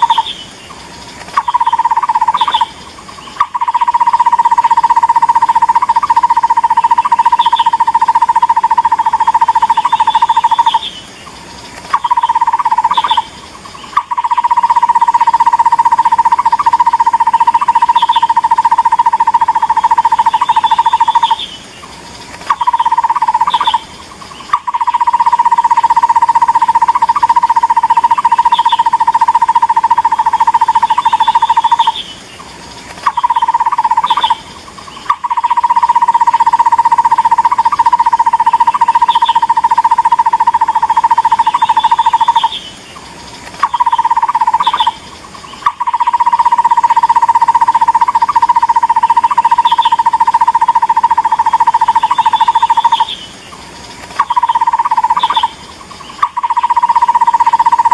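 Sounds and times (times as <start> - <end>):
barbet calling hollow notes: 1.4 - 10.9, 11.9 - 13.3, 13.9 - 21.4, 24.5 - 32.0, 33.0 - 42.6, 43.6 - 45.0, 45.6 - 53.2, 54.2 - 55.6, 56.2 - 57.9.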